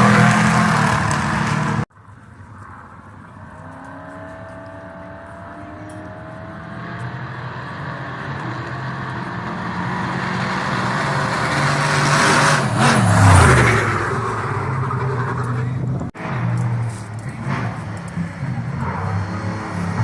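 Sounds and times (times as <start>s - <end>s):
off-road vehicle engine passing: 0.0s - 1.9s, 2.5s - 20.0s.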